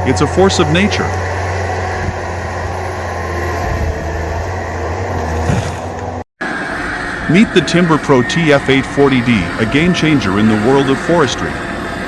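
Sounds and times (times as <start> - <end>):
heavy machine engine droning: 0.0 - 12.0.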